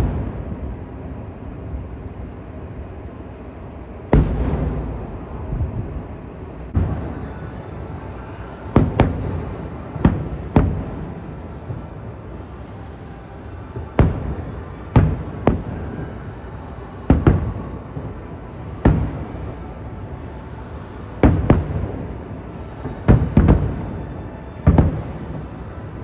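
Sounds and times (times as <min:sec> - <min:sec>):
distant fireworks booming: 0:00.0 - 0:02.0, 0:04.0 - 0:12.7, 0:13.7 - 0:20.1, 0:21.1 - 0:25.6.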